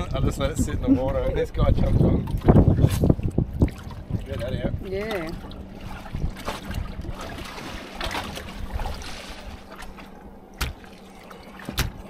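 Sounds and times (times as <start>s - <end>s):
faint hum: 0.0s - 12.0s
water trickling and lapping: 0.0s - 12.0s.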